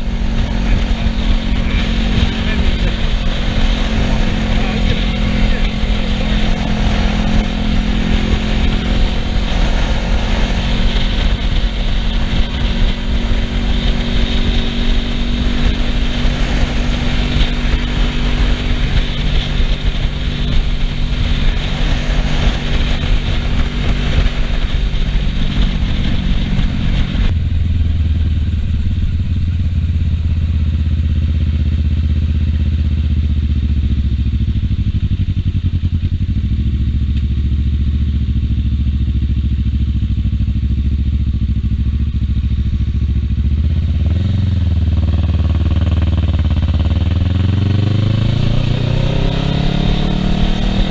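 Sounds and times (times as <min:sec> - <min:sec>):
wind rush on microphone: 0:00.0 - 0:32.2, 0:41.1 - 0:50.9
motorcycle engine running: 0:00.0 - 0:50.9.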